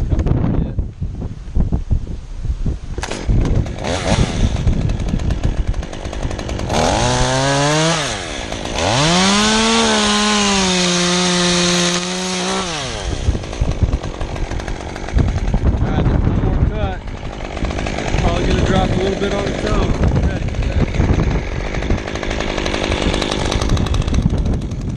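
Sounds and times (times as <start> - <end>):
wind noise: 0.0 - 24.9
chainsaw revving and idling: 3.0 - 24.9.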